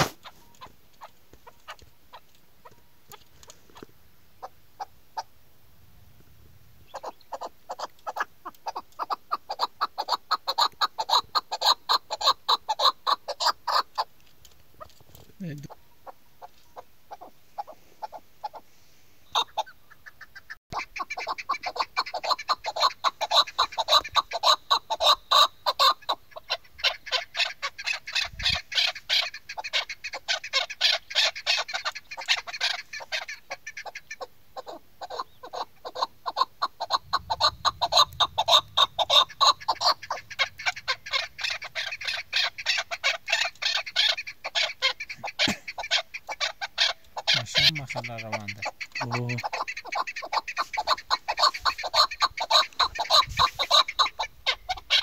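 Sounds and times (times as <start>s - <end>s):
partridge rapid clucking calls: 0.0s - 5.3s, 6.6s - 55.0s.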